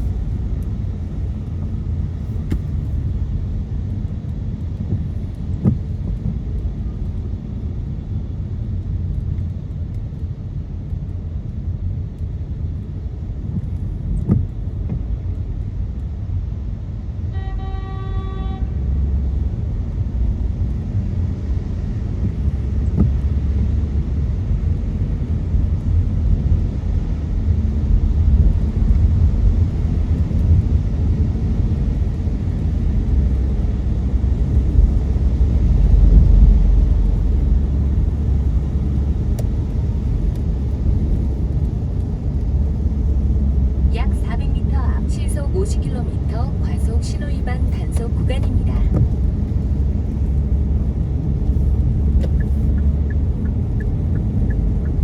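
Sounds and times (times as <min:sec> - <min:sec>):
car tyres and engine rumble: 0:00.0 - 0:55.0.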